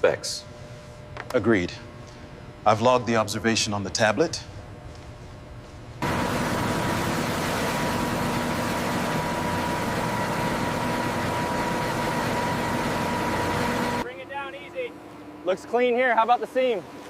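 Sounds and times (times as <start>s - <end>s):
machinery hissing and humming: 0.0s - 16.9s.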